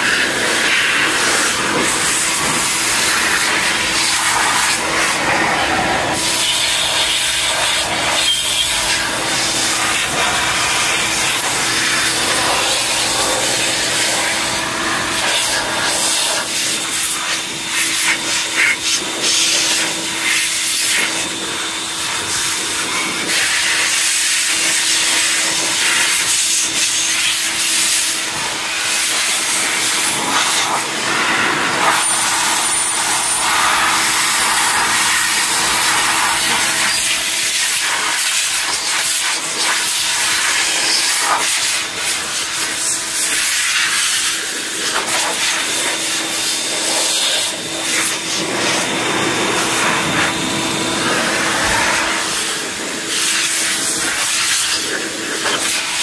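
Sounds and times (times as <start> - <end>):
rush of air from nozzle: 0.0 - 21.4, 22.0 - 56.0
leaf blower motor whining: 0.0 - 56.0.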